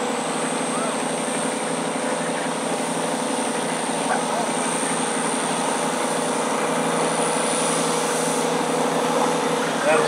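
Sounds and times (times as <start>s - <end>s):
diesel tractor engine under load: 0.0s - 10.0s
steady high whine: 0.0s - 10.0s.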